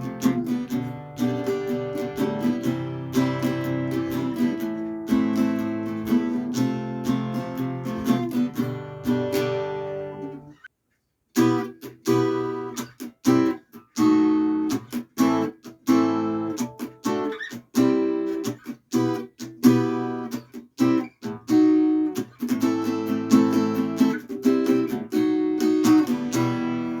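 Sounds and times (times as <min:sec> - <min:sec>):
acoustic guitar chords: 0:00.0 - 0:10.6, 0:11.4 - 0:27.0.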